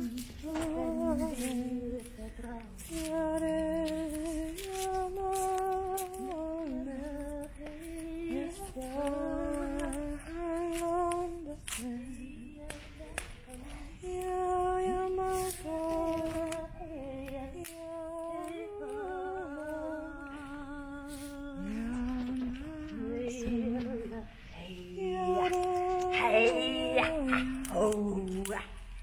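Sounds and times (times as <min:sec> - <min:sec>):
person humming a slow tune: 0:00.0 - 0:28.8.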